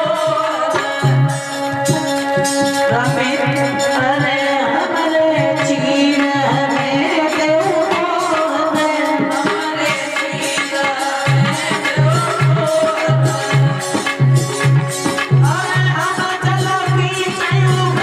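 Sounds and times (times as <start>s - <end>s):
tabla rhythm: 0.0s - 18.0s.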